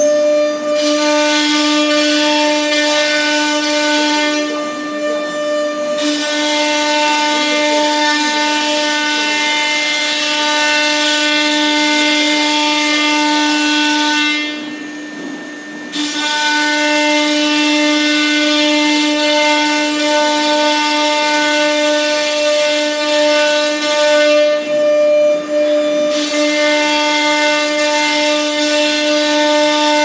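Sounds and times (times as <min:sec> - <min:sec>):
wood cutting hiss: 0:00.0 - 0:24.7
router spindle whining: 0:00.0 - 0:30.0.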